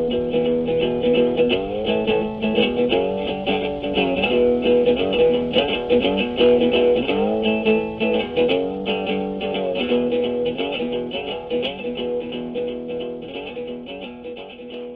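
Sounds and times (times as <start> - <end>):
guitar background music: 0.0 - 14.9.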